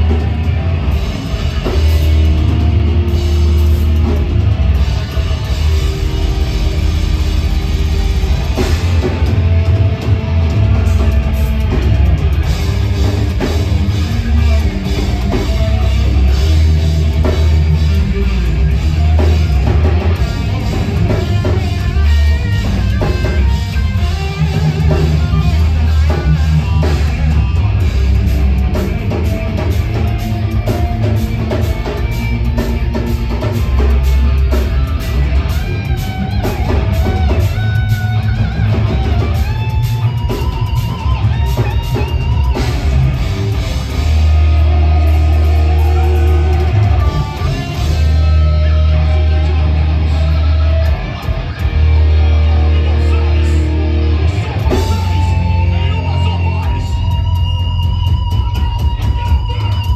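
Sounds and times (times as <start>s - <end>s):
drum kit: 0.0s - 59.9s
electric guitars: 0.0s - 59.9s
heavy metal band playing live: 0.0s - 59.9s.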